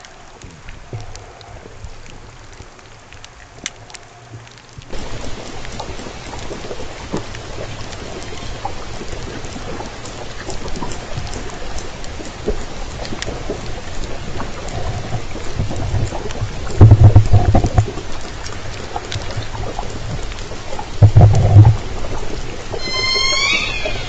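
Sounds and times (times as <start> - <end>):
killer whale clicks: 2.5 - 24.0.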